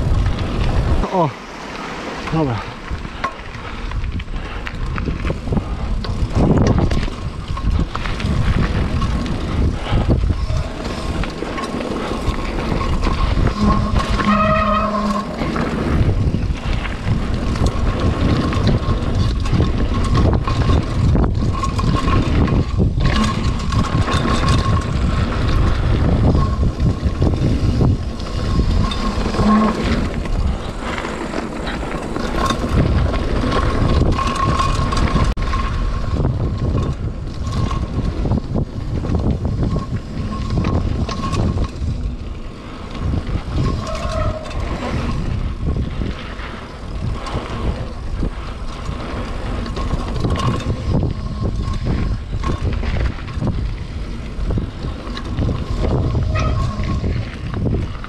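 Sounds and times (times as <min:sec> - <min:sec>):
bike knocking and rattling: 0:00.0 - 0:58.0
tyres rolling over gravel: 0:00.0 - 0:58.0
wind rumbling on microphone: 0:00.0 - 0:58.0.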